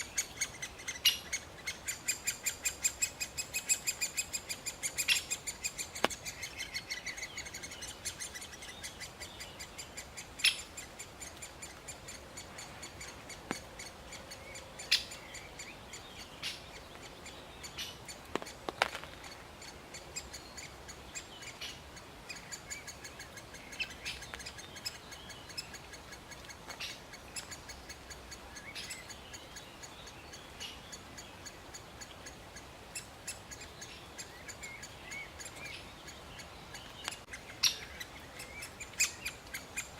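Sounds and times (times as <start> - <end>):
woodpecker calling: 0.0 - 39.9.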